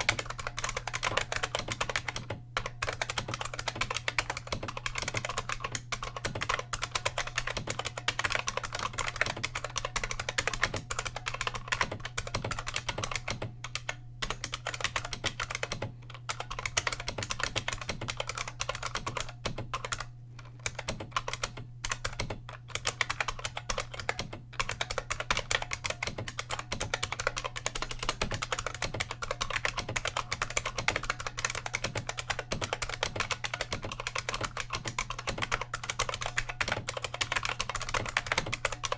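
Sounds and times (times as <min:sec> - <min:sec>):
clicky keyboard typing: 0:00.0 - 0:38.9.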